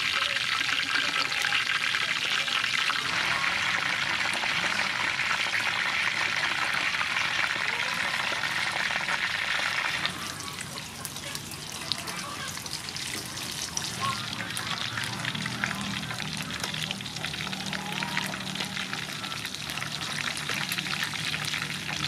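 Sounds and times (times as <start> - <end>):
deep-frying sizzle: 0.0 - 22.0
oil popping: 0.0 - 22.0.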